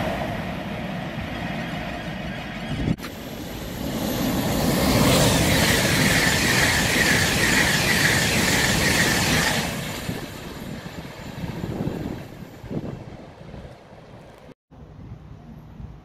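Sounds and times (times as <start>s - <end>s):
train passing at speed: 0.0s - 14.5s.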